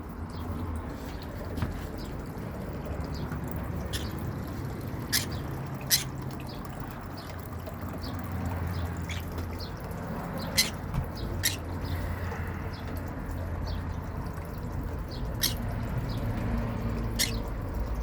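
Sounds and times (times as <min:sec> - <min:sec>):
water trickling and dripping: 0:00.0 - 0:18.0.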